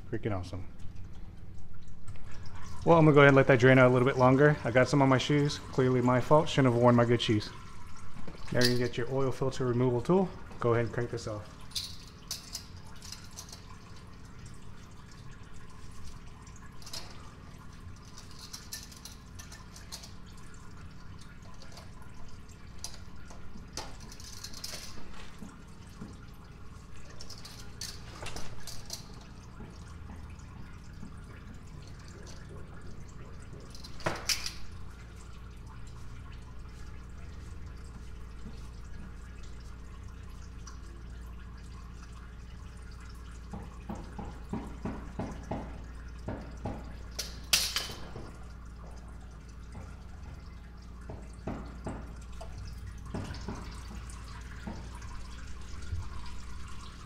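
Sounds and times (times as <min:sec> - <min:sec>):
oil dripping into pan: 0:10.1 - 0:57.0.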